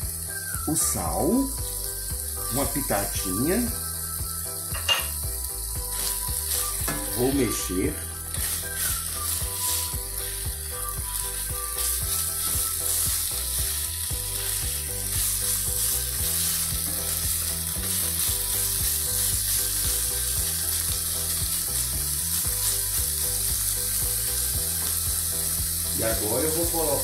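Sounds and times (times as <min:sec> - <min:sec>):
chicken sizzling in a pan: 0:00.0 - 0:27.0.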